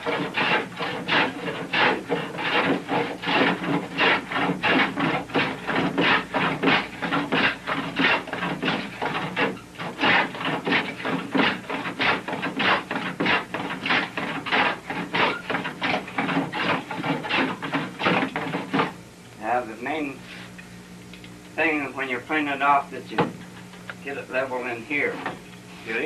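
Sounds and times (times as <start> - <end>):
hand tool scraping wood: 0.0 - 19.0, 23.2 - 26.0.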